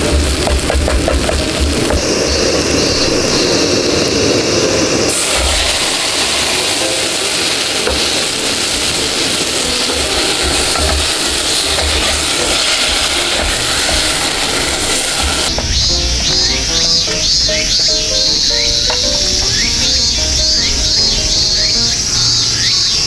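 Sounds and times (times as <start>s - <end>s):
food sizzling in a pot: 0.0s - 23.0s.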